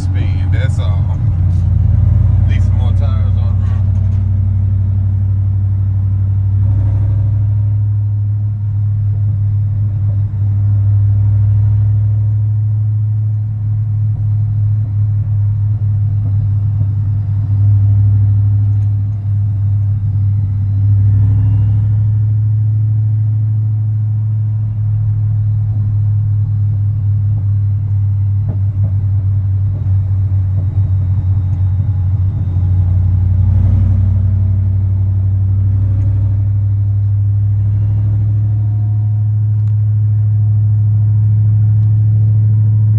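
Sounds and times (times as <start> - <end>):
deep engine drone: 0.0 - 42.9.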